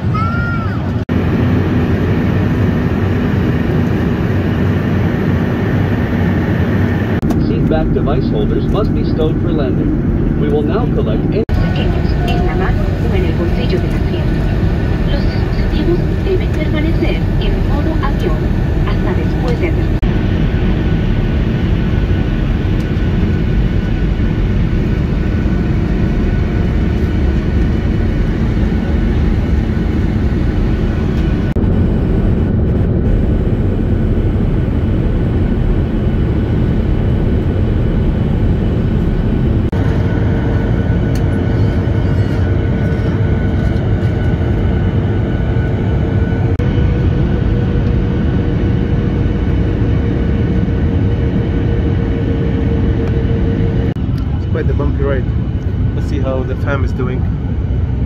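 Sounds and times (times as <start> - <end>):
jet engines and rushing air: 0.0 - 58.0
faint hum: 7.2 - 58.0.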